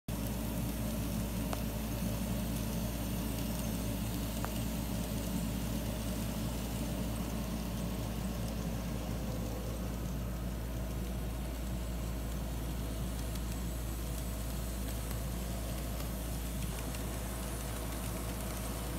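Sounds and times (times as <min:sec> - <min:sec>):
low mechanical hum: 0:00.1 - 0:18.9
faint ticks: 0:00.2 - 0:18.9.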